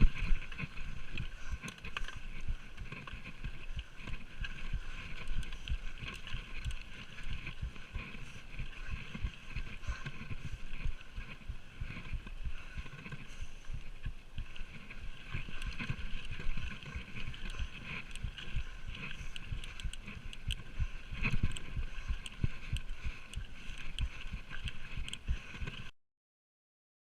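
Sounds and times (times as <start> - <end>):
small clicks and rattles: 0.0 - 13.4, 14.0 - 25.9
bike tyre roar on dirt: 0.0 - 25.8
wind buffeting microphone: 0.0 - 25.8.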